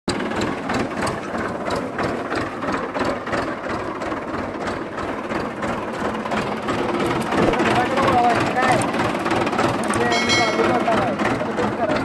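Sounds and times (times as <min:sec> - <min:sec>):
diesel tractor engine clattering: 0:00.1 - 0:12.0.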